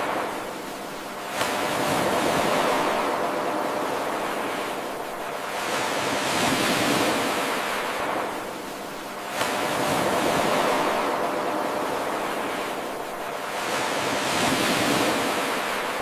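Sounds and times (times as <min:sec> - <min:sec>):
ocean waves hissing: 0:00.0 - 0:16.0.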